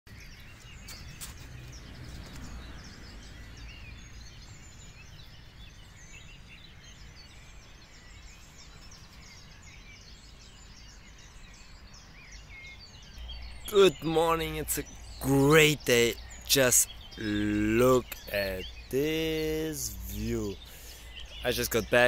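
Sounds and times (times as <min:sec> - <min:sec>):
birds chirping: 0:00.1 - 0:22.0.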